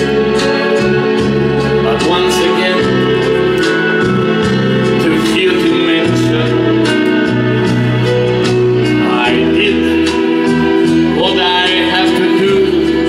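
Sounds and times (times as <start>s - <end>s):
man singing into a microphone: 0.0s - 7.3s, 8.8s - 13.0s
instrumental backing track: 0.0s - 13.0s.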